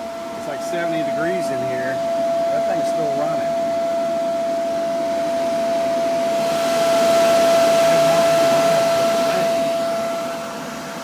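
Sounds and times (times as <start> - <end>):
cooling fan whine: 0.0 - 11.0.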